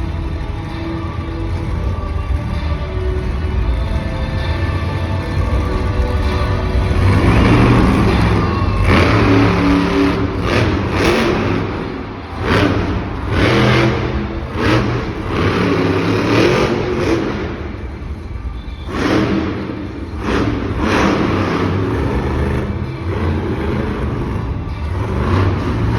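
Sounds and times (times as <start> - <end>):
truck engine revving hard: 0.0 - 25.9.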